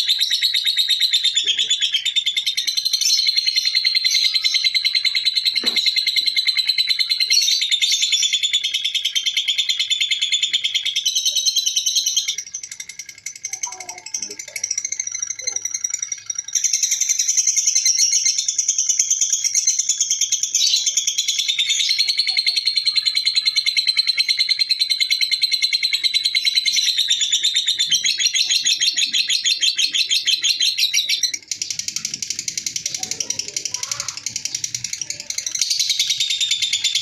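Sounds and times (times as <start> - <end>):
lovebird chattering trill: 0.0 - 37.0.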